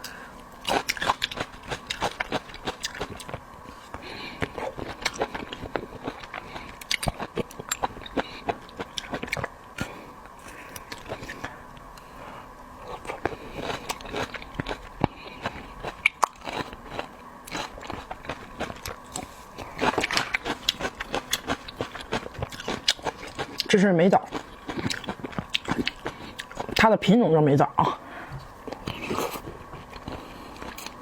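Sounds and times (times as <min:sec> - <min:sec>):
person chewing crunchy food: 0:00.0 - 0:12.1, 0:12.8 - 0:26.9, 0:27.9 - 0:31.0.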